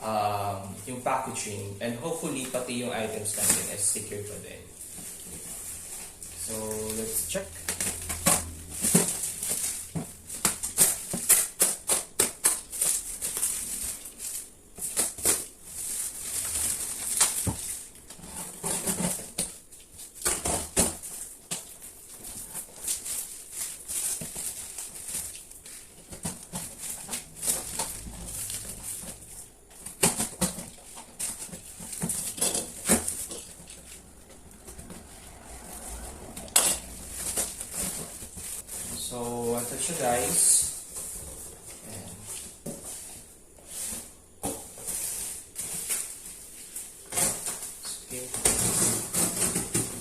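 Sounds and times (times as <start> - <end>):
plastic packaging crinkling: 0.2 - 43.3.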